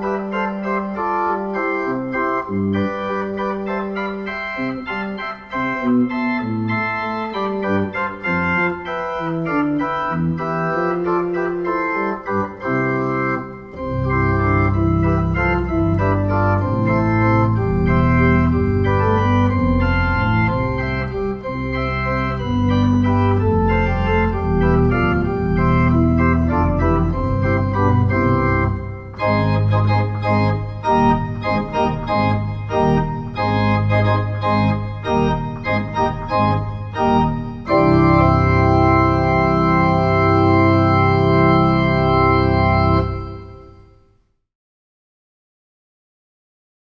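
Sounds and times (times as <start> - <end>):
deep organ pedal bass: 0.0 - 43.9
electronic organ chords: 0.0 - 44.2.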